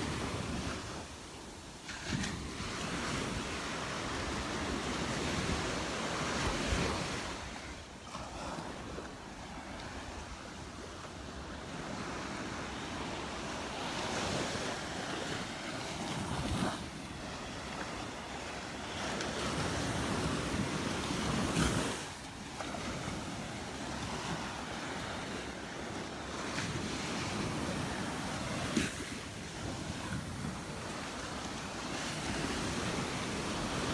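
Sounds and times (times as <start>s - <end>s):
waves breaking on beach: 0.0s - 33.9s.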